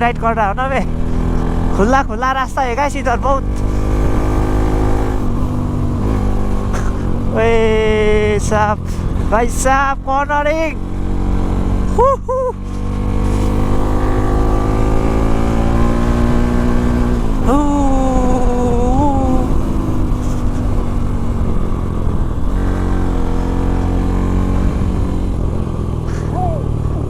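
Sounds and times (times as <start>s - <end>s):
motorcycle engine running hard: 0.0s - 27.0s.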